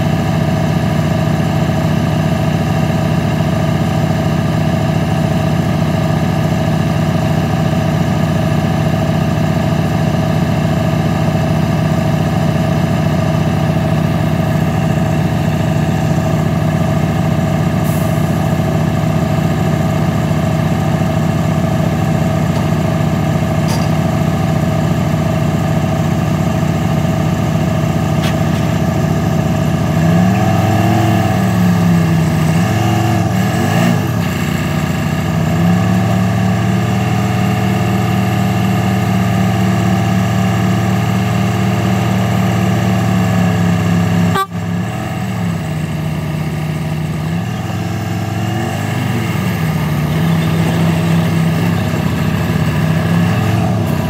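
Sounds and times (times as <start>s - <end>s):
truck diesel engine revving: 0.0s - 54.0s.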